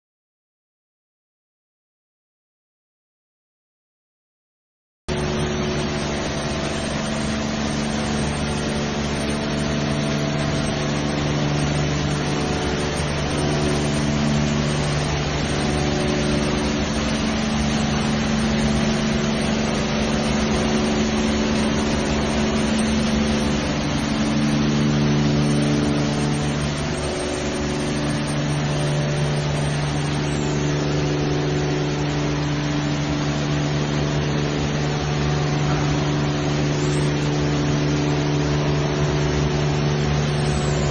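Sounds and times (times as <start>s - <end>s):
car wash machine hum: 5.1s - 40.9s
spraying water hiss: 5.1s - 40.9s.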